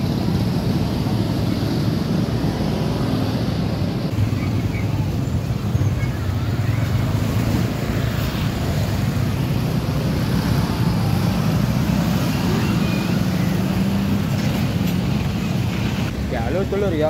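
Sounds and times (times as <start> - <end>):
motorcycles passing: 0.0 - 17.0.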